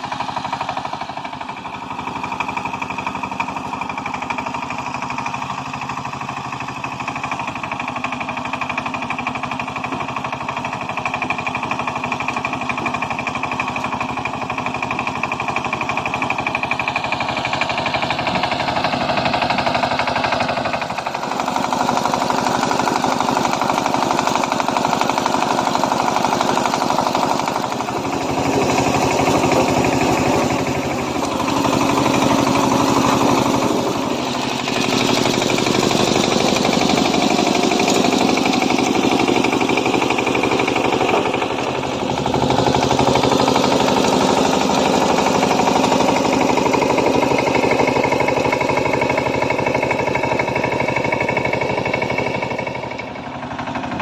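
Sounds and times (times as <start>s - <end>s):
diesel tiller engine chugging: 0.0s - 54.0s.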